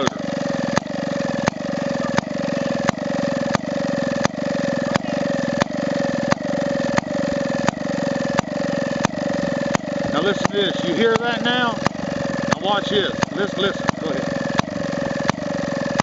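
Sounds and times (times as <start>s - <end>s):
sharp engine crack: 0.0s - 16.0s
small gas engine putt-putt: 0.0s - 16.0s.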